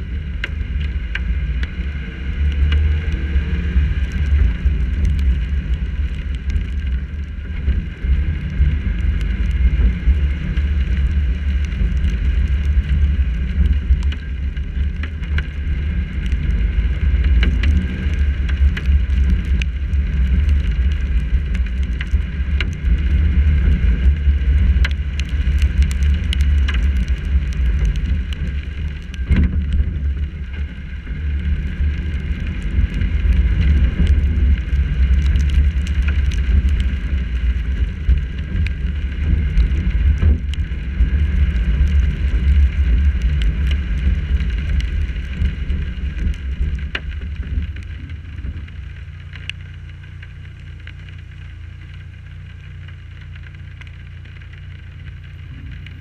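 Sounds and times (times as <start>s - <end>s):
car driving on wet streets: 0.0s - 56.0s
raindrops ticking on camera: 0.0s - 56.0s.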